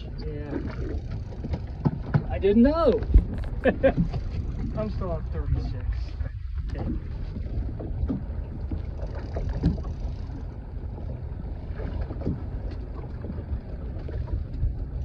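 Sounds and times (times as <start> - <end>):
water slapping boat hull: 0.0 - 15.0
wind rumbling on microphone: 0.0 - 15.0.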